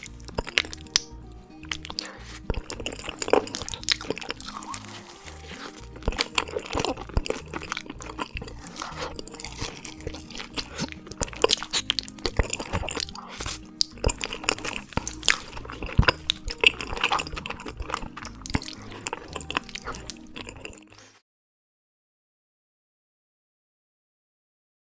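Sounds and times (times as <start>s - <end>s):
background music: 0.0s - 21.2s
crunchy bites: 0.0s - 21.2s
wet chewing and smacking: 0.0s - 21.2s.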